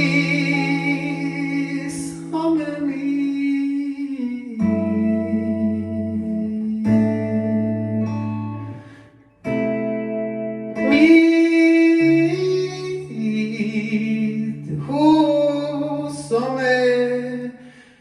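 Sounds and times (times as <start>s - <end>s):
guitar-led pop ballad: 0.0s - 18.0s.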